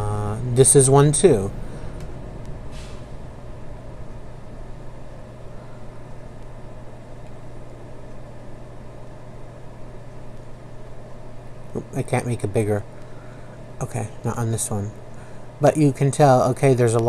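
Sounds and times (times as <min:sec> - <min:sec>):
background hiss: 0:00.0 - 0:17.0
steady low hum: 0:00.0 - 0:17.0.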